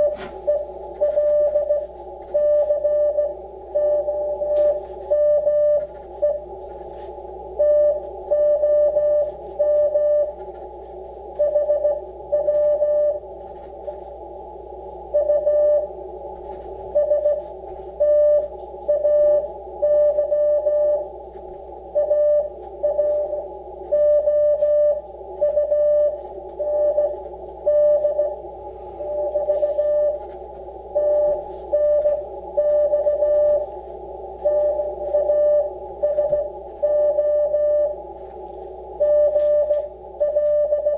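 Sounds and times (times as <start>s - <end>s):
radio band noise hiss: 0.0s - 5.1s, 5.7s - 8.3s, 8.9s - 40.2s
morse code tone: 0.0s - 10.4s, 11.4s - 13.2s, 15.1s - 16.0s, 16.6s - 21.1s, 21.9s - 28.4s, 29.0s - 33.8s, 34.4s - 38.0s, 39.0s - 40.9s.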